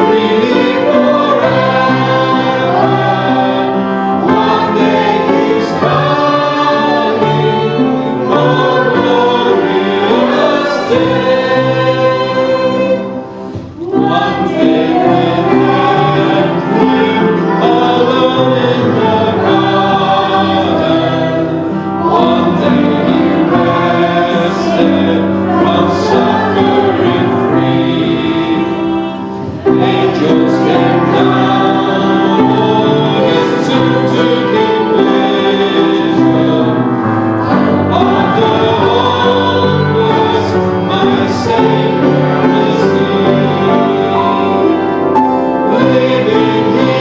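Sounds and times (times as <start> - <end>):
choir singing a hymn: 0.0 - 47.0
instrumental accompaniment: 0.0 - 47.0.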